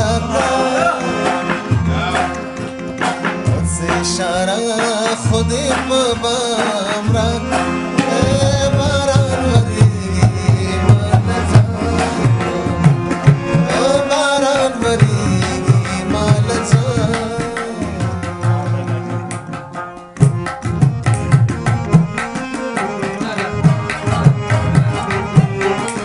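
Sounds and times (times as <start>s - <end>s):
tabla beat: 0.0s - 26.0s.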